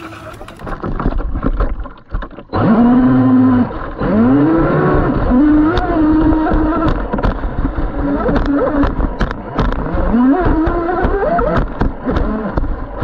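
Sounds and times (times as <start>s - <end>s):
water splashing against hull: 0.0s - 13.0s
electric motor whine: 2.5s - 13.0s.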